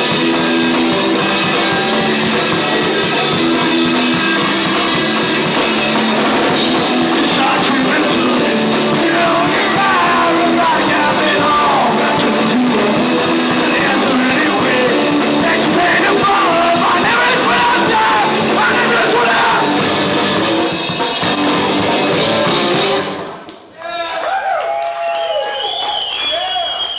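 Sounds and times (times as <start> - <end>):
punk rock band playing live: 0.0 - 23.4.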